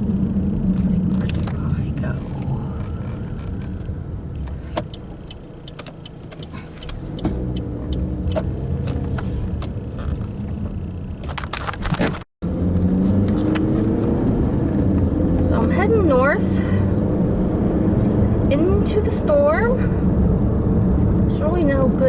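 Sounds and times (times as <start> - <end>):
car road noise rumble: 0.0 - 22.0.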